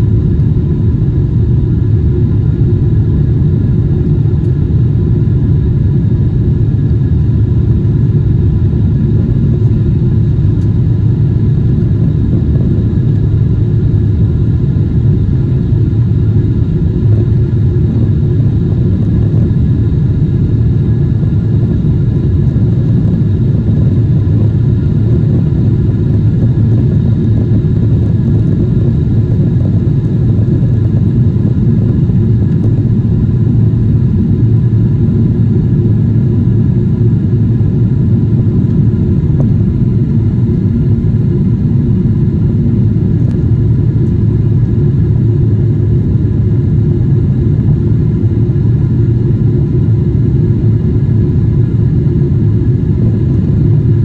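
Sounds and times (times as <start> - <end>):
faint steady whine: 0.0 - 54.0
jet engine and airflow rumble: 0.0 - 54.0.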